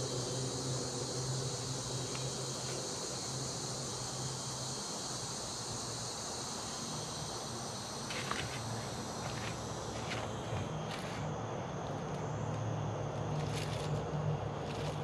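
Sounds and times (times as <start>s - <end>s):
insect chorus chirping: 0.0s - 15.0s.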